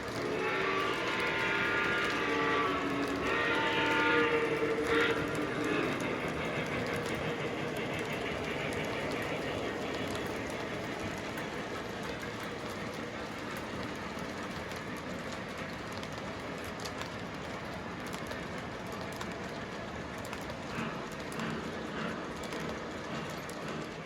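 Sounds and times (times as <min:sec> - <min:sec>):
model train rumbling on track: 0:00.0 - 0:24.0.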